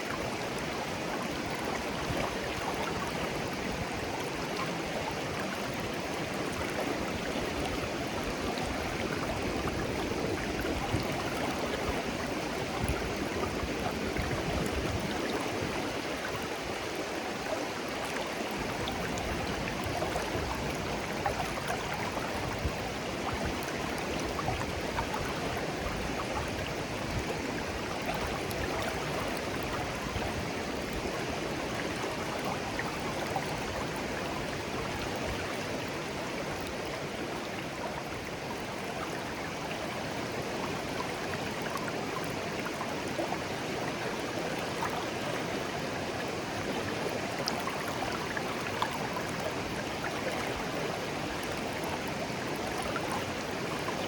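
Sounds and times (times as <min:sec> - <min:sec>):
small water splashes: 0:00.0 - 0:54.0
stream babbling: 0:00.0 - 0:54.0.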